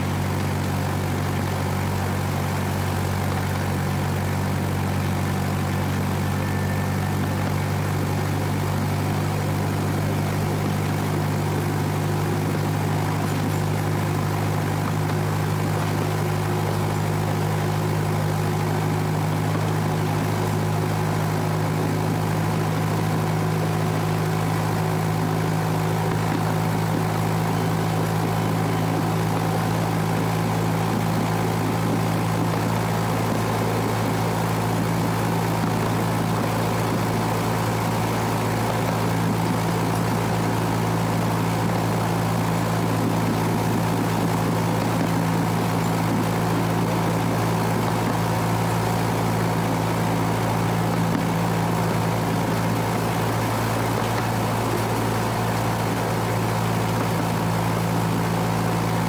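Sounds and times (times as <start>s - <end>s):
locomotive engine droning: 0.0s - 59.0s.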